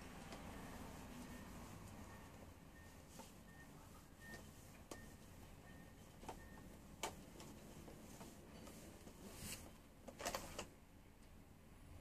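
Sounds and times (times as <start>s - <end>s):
hand rubbing plastic: 0.1s - 10.7s.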